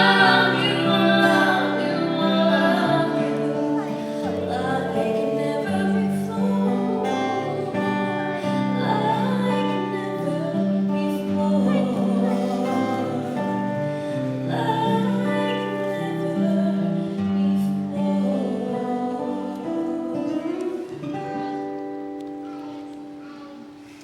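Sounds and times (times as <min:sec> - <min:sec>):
woman and man singing: 0:00.0 - 0:22.1
acoustic guitar: 0:00.0 - 0:24.0.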